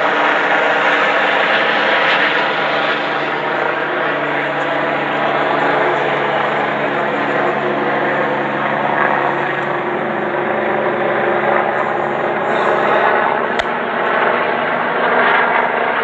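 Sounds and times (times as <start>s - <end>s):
helicopter hovering: 0.0s - 16.0s.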